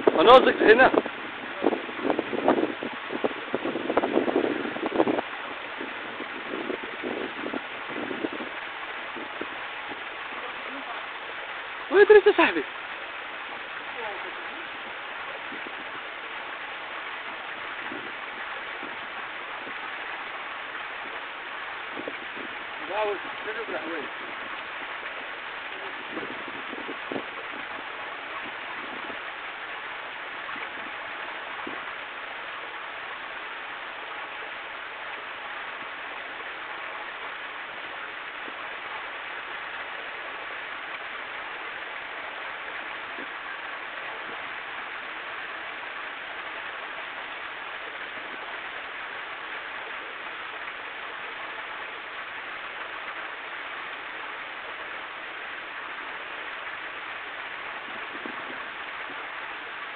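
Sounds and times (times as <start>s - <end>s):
steady rushing noise: 0.0s - 59.9s.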